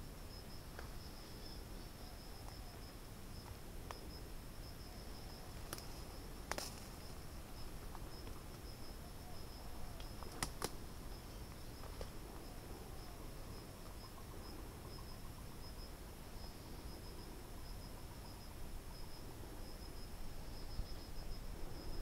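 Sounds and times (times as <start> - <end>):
faint outdoor background noise: 0.0 - 22.0
high-pitched insect trill: 0.0 - 22.0.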